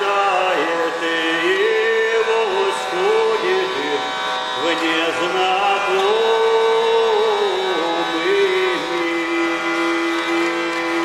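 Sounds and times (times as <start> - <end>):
hurdy-gurdy buzzing drone: 0.0 - 11.0
man singing: 0.0 - 11.0.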